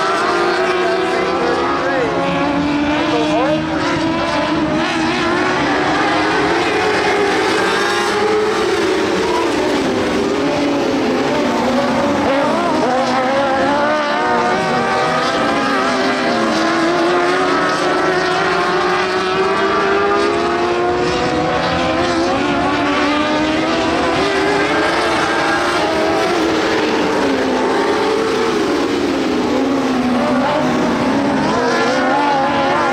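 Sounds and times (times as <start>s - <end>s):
race car engines: 0.0s - 32.9s.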